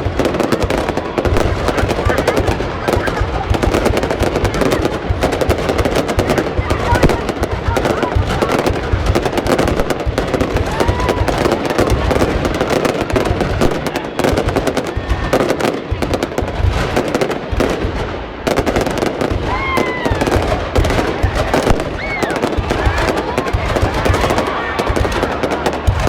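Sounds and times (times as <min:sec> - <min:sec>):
fireworks crackling pops: 0:00.0 - 0:26.0.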